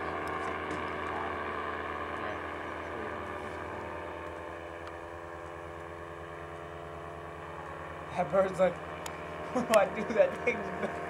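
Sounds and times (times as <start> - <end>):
paramotor engine droning overhead: 0.0 - 11.0.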